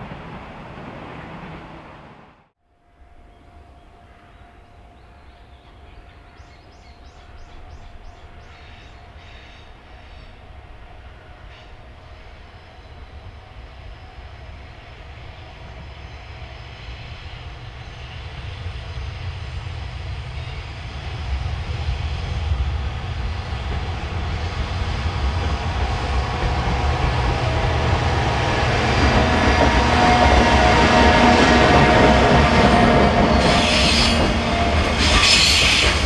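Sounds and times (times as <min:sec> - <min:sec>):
freight train rumbling: 0:00.0 - 0:36.0.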